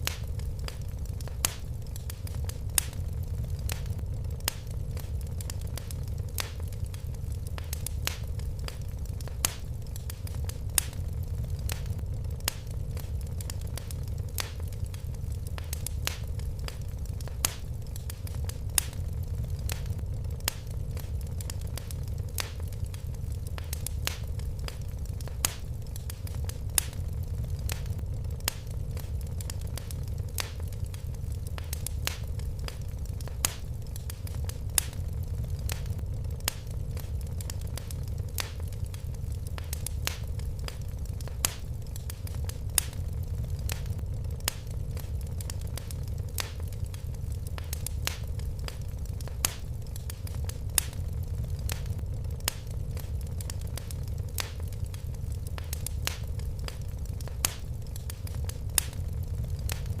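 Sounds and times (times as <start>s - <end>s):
fire crackling in a fireplace: 0.0s - 60.0s.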